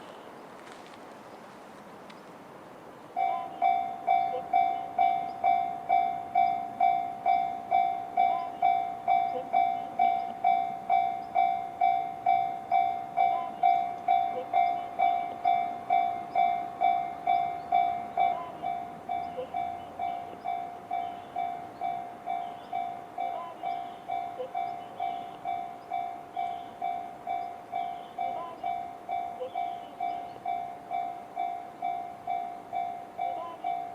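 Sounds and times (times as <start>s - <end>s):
level crossing alarm dinging: 3.2s - 33.9s.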